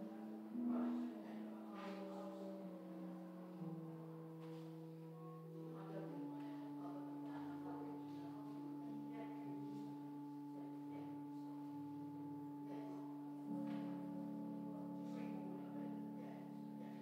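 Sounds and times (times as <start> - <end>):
church organ playing: 0.0 - 17.0.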